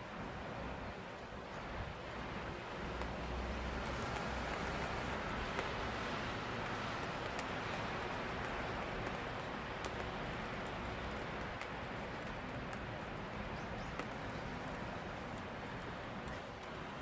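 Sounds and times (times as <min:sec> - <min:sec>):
steady rain hiss: 0:00.0 - 0:17.0
raindrops ticking close by: 0:00.1 - 0:17.0.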